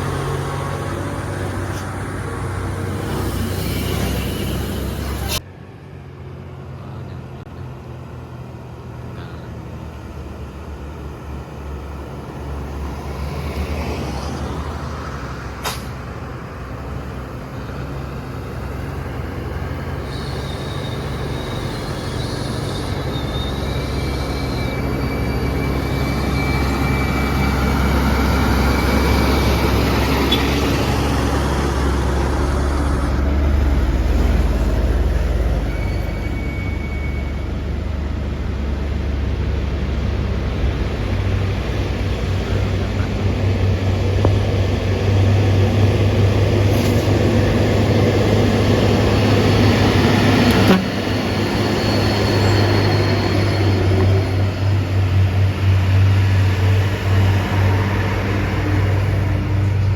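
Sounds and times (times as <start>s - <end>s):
truck diesel engine straining: 0.0s - 59.9s.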